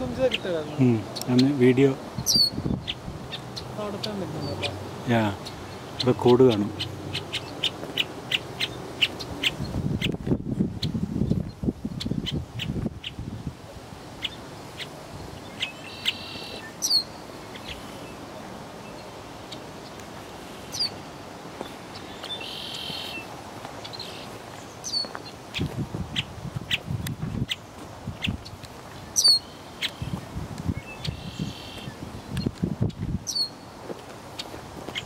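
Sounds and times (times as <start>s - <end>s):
wild birds chirping: 0.0s - 35.0s.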